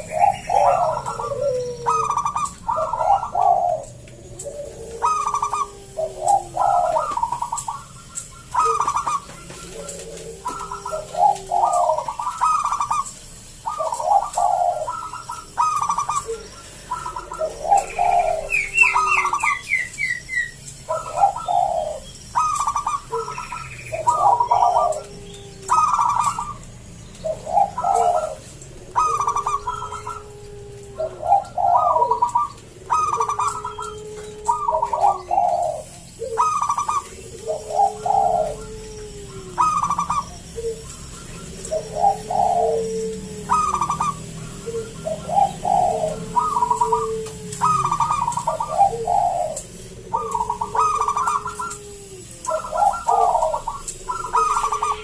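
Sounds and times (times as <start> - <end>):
dove cooing: 0.0 - 55.0
higher bird chirps: 0.0 - 55.0.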